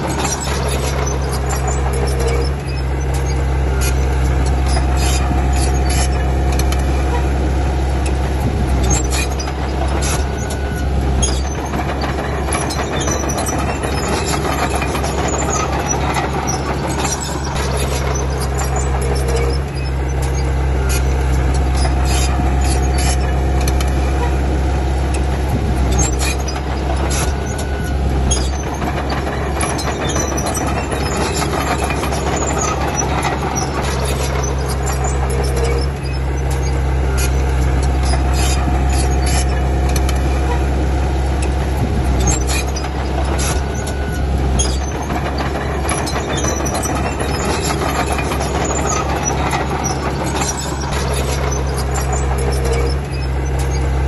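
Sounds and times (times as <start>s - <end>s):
diesel engine under load: 0.0s - 54.0s
tracks clanking and squealing: 0.0s - 54.0s.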